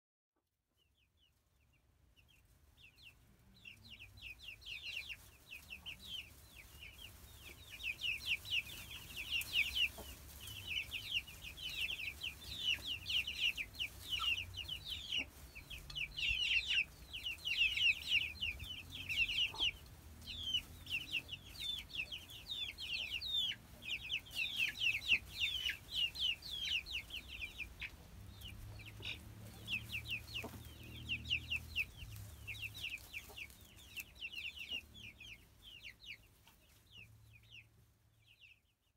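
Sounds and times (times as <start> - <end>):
chicks peeping: 0.8 - 38.9.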